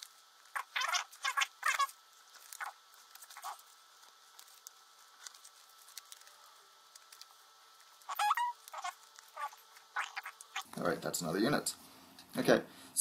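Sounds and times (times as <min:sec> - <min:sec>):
paper rustling and crinkling: 0:00.0 - 0:10.7.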